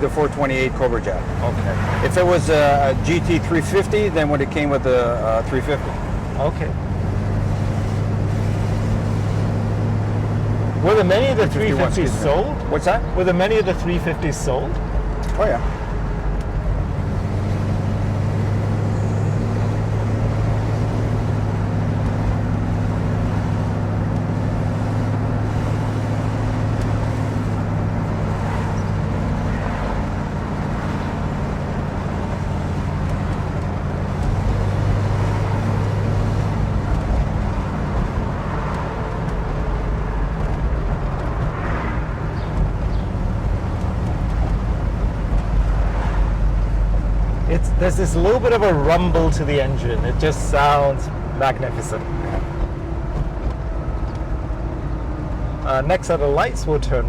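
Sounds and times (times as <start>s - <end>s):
car engine rumble from inside cabin: 0.0s - 57.0s
road noise: 0.0s - 57.0s.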